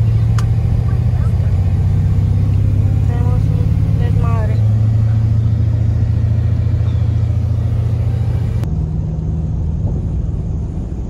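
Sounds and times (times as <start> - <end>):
vehicle engine and road drone: 0.0 - 11.0.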